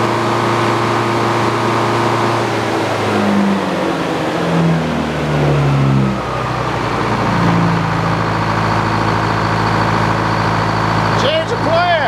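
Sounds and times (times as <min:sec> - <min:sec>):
sawmill engine drone: 0:00.0 - 0:12.0.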